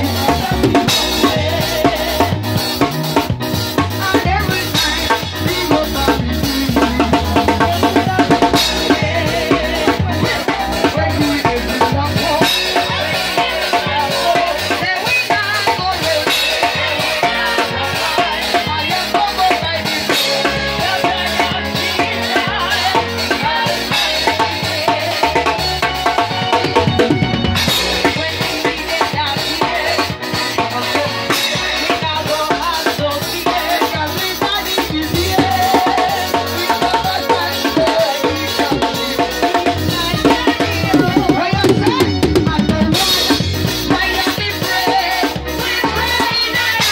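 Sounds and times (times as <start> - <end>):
live band playing loudly: 0.0 - 46.9.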